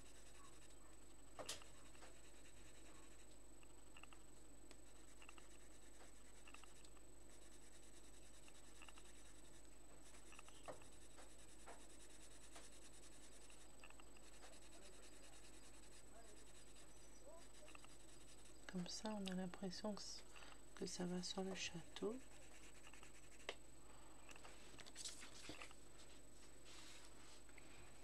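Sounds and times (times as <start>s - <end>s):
pencil scratching on paper: 0.0s - 4.2s, 4.8s - 23.6s.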